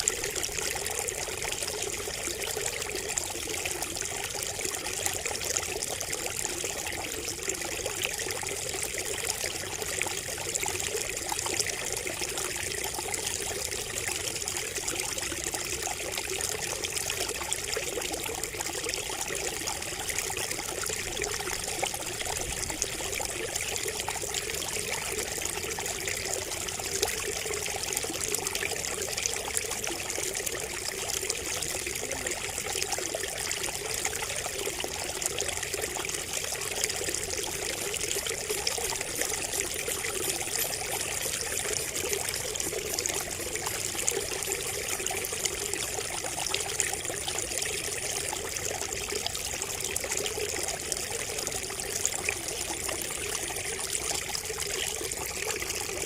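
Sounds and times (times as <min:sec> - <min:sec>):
water trickling from water feature: 0:00.0 - 0:56.0.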